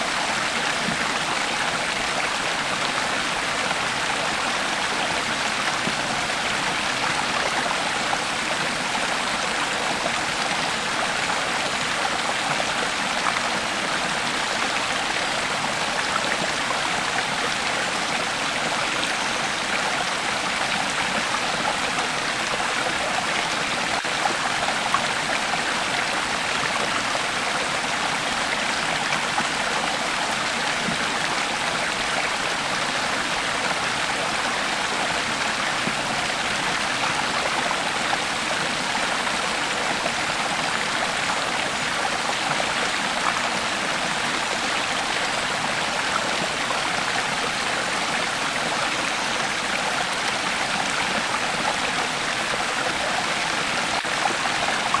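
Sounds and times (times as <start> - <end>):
creek water over rocks: 0.0 - 55.0.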